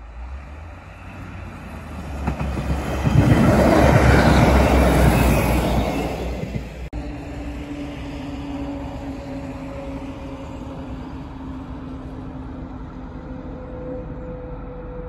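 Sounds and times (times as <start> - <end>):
distant train humming: 0.0 - 15.0
outdoor background noise: 0.0 - 15.0.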